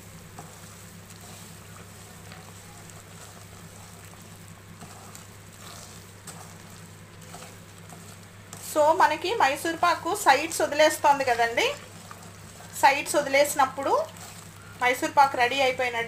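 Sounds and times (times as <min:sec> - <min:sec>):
mixture sizzling and bubbling in pan: 0:00.0 - 0:16.0
steady low hum: 0:00.0 - 0:16.0
spatula scraping pan: 0:00.3 - 0:15.4.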